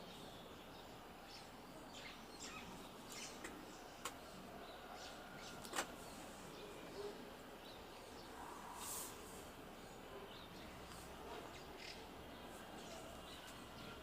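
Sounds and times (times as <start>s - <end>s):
birds chirping: 0.0s - 14.0s
low steady hiss: 0.0s - 14.0s.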